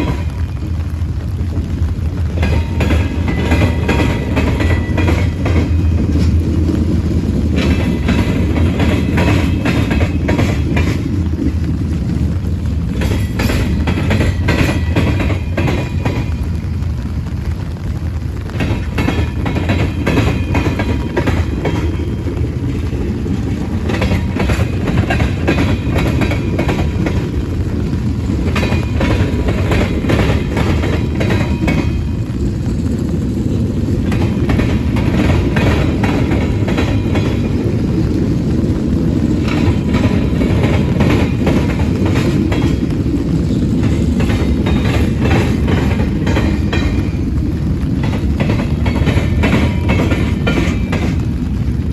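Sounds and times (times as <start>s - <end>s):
freight train cars rumbling: 0.0s - 51.9s.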